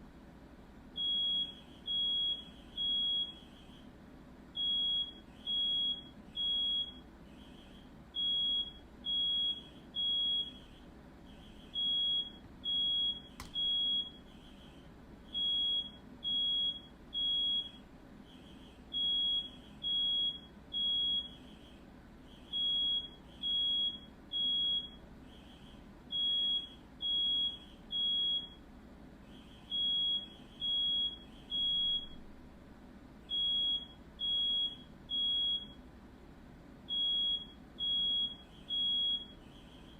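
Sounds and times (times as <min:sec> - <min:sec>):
smoke alarm beeping: 0:01.0 - 0:03.8, 0:04.6 - 0:10.8, 0:11.4 - 0:17.8, 0:18.4 - 0:21.8, 0:22.4 - 0:28.6, 0:29.4 - 0:32.3, 0:33.3 - 0:35.8, 0:36.9 - 0:39.9.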